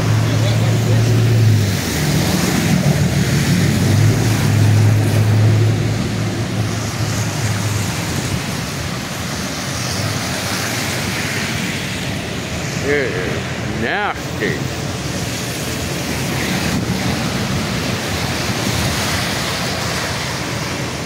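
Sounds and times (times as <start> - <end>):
rain: 0.0 - 21.0
strong wind rushing: 0.0 - 21.0
vehicle engine humming: 0.0 - 21.0.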